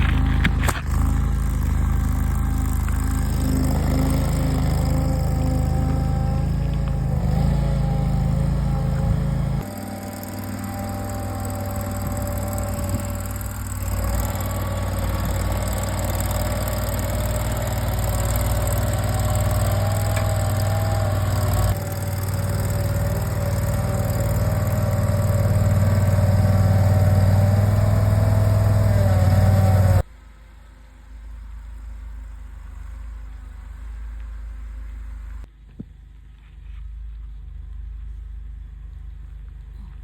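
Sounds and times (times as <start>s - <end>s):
engine running with deep hum: 0.0s - 40.0s.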